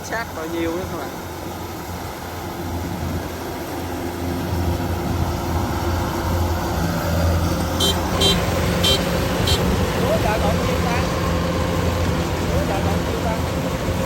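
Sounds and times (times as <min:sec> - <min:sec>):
combine harvester engine humming: 0:00.0 - 0:14.0.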